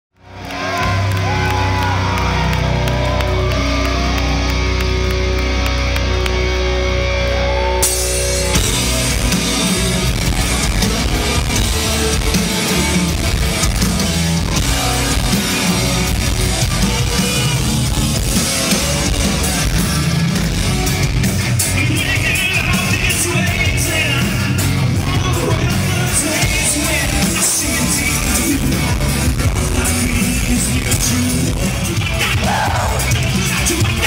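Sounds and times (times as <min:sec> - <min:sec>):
guitars: 0:00.2 - 0:34.0
rock band playing live: 0:00.2 - 0:34.0
drum kit: 0:00.3 - 0:34.0.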